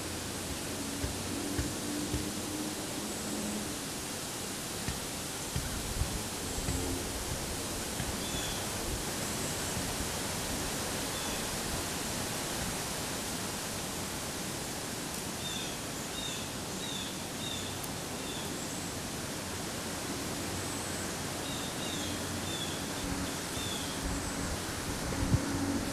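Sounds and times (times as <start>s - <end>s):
outdoor rushing hiss: 0.0s - 25.9s.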